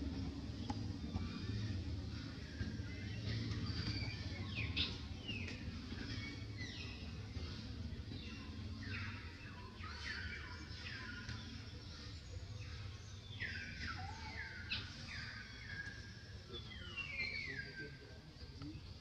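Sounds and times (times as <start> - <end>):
birds chirping: 0.0 - 19.0
low steady rumble: 0.0 - 19.0.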